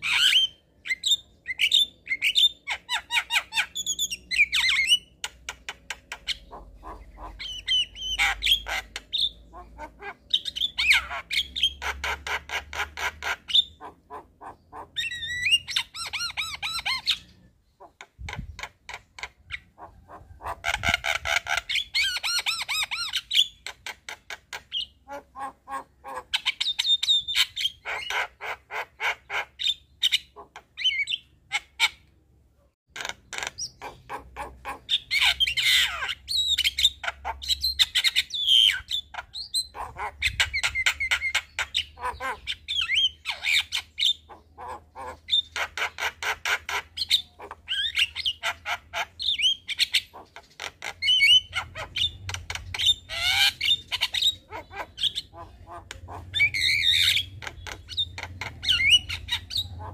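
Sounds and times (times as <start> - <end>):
bird chattering calls and squawks: 0.0 - 32.1, 32.9 - 59.9.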